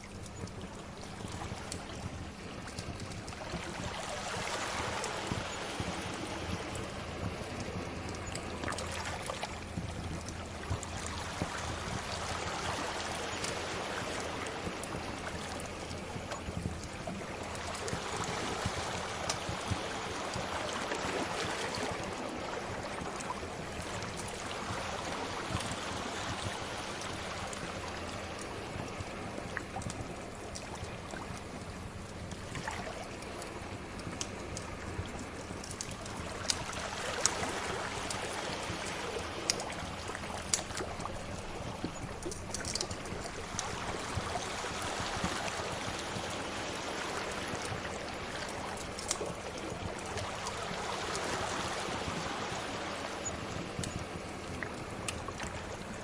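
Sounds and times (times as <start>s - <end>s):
sea waves washing in: 0.0s - 56.0s.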